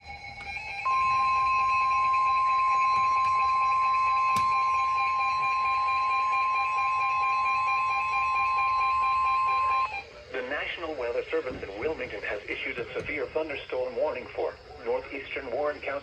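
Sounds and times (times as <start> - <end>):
steady warning alarm tone: 0.0 - 16.0
faint radio hiss: 1.8 - 16.0.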